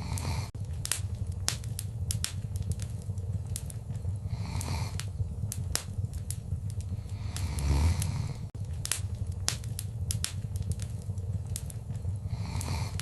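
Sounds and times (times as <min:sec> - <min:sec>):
burning wood popping and snapping: 0:00.0 - 0:13.0
low rumble of flames: 0:00.0 - 0:13.0
soft hiss: 0:00.0 - 0:13.0.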